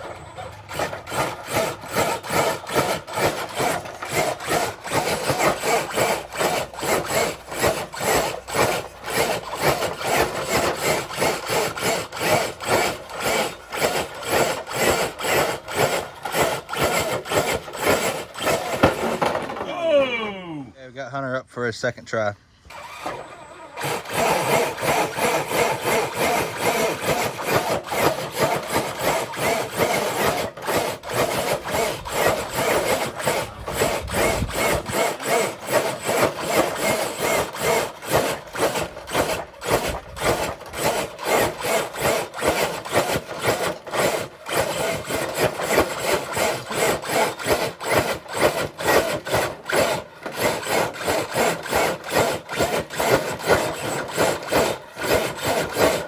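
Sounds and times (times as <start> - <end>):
toy truck motor grinding: 0.0 - 19.7, 22.6 - 56.0.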